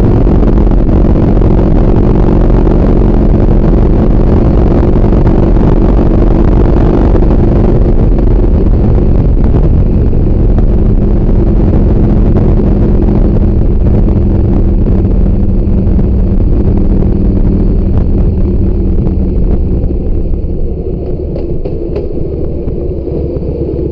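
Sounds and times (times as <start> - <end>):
motorcycle engine running: 0.0 - 23.9
wind rushing: 0.0 - 23.9.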